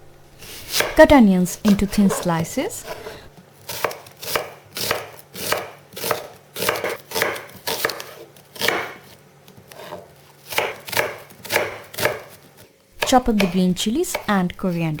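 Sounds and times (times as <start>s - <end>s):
knife slicing on cutting board: 0.4s - 1.0s, 1.7s - 14.3s.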